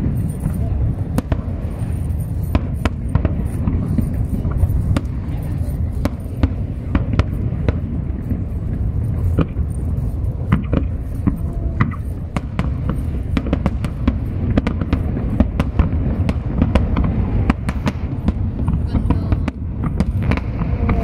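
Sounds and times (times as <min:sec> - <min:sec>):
fireworks bangs and crackles: 0:00.0 - 0:21.0
steady low rumble: 0:00.0 - 0:21.0.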